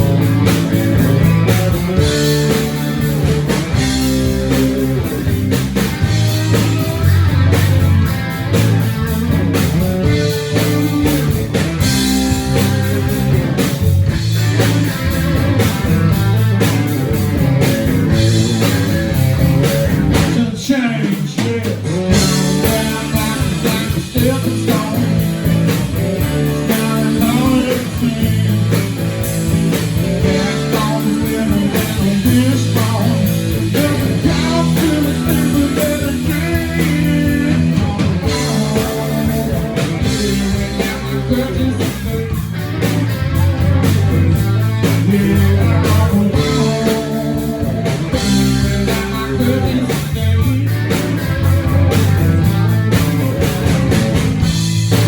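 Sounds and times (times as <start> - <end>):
electric guitar: 0.0 - 55.0
rock band playing: 0.0 - 55.0.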